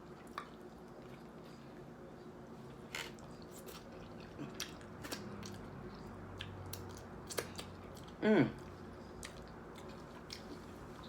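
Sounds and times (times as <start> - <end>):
chewing soft food: 0.0 - 11.0.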